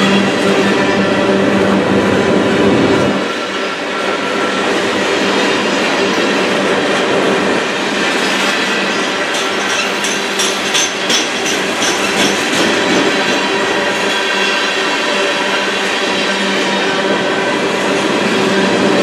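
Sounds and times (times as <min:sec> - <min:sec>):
freight train rumbling and rattling: 0:00.0 - 0:19.0.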